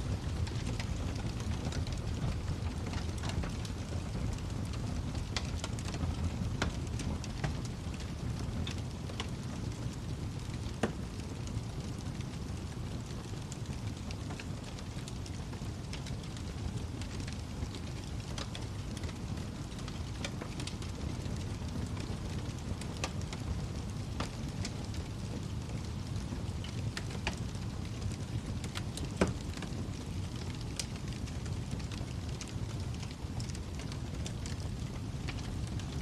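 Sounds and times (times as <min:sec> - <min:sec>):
flames rushing: 0:00.0 - 0:36.0
wood fire crackling: 0:00.0 - 0:36.0.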